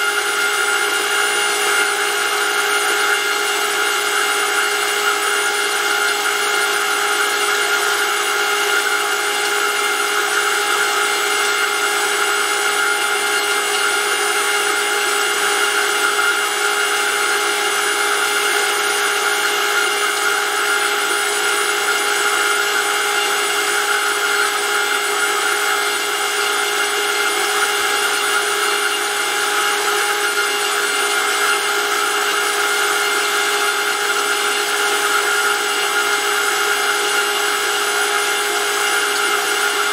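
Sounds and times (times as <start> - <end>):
electric motor pump whine: 0.0 - 39.9.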